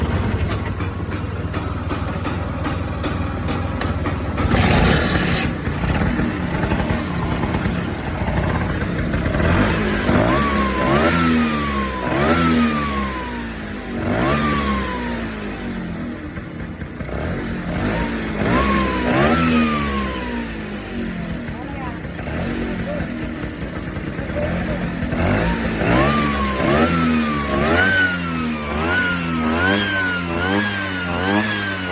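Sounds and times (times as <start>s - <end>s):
scooter engine idling and revving: 0.0s - 31.9s.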